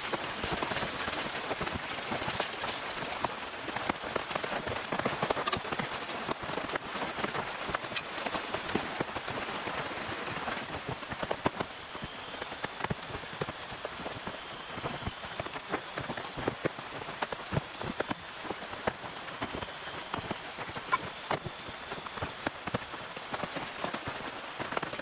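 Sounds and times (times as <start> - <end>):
raindrops striking close by: 0.0 - 25.0
steady rain falling: 0.0 - 25.0.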